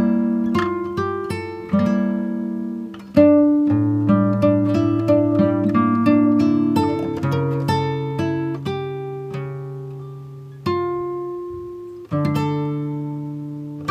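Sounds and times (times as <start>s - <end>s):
plucked guitar music: 0.0s - 13.9s.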